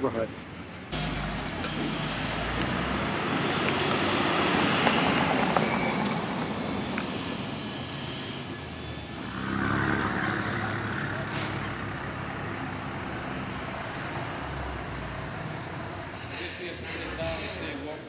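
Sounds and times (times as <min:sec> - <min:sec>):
engine rumbling past: 0:00.8 - 0:17.8.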